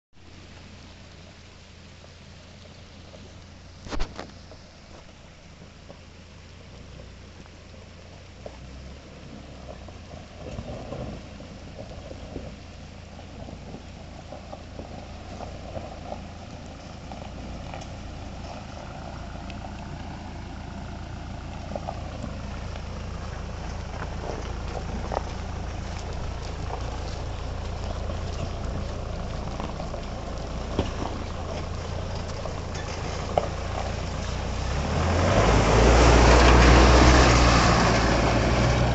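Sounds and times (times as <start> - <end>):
engine running and revving: 5.6 - 38.9.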